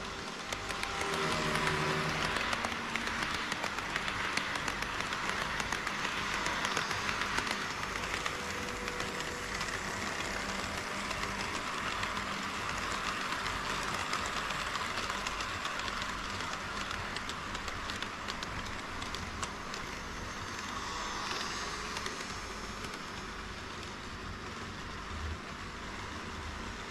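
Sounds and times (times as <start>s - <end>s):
wheels clicking over track joints: 0.0s - 23.3s
whir of model train wheels: 0.0s - 26.9s.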